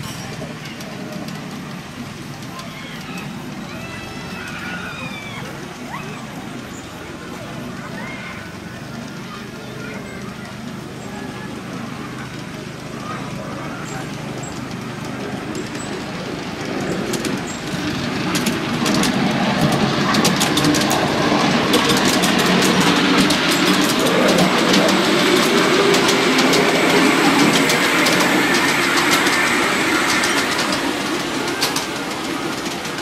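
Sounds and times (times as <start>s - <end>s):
miniature train rumbling: 0.0s - 33.0s
wheels clicking over rail joints: 0.0s - 33.0s.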